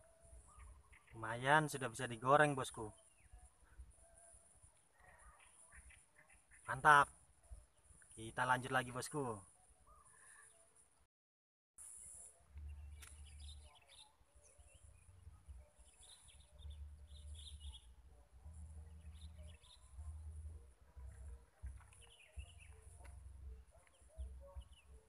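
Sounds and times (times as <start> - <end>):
faint birds chirping: 0.0 - 11.1, 11.8 - 25.0.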